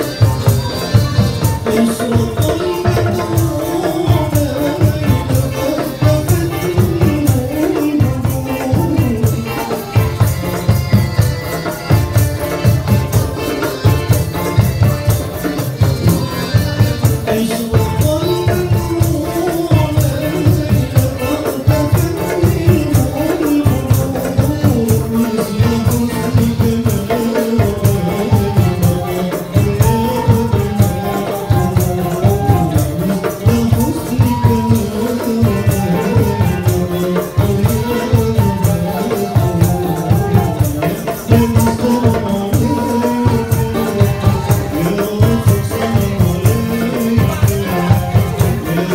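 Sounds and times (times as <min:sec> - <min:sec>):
accordion: 0:00.0 - 0:48.9
lute: 0:00.0 - 0:48.9
man singing into microphone: 0:00.0 - 0:48.9
percussion beat: 0:00.0 - 0:48.9.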